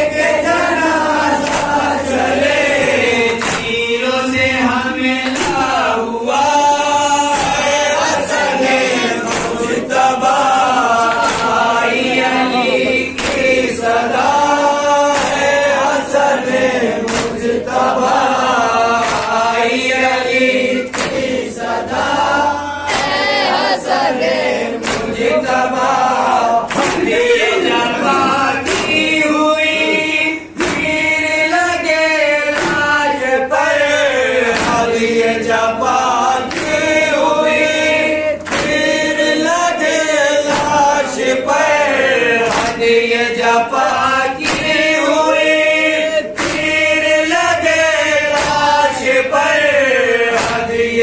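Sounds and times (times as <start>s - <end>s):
men singing in unison: 0.0s - 51.0s
chest-beating slaps: 0.2s - 22.2s, 22.8s - 23.7s, 24.4s - 31.9s, 32.5s - 33.8s, 34.4s - 51.0s.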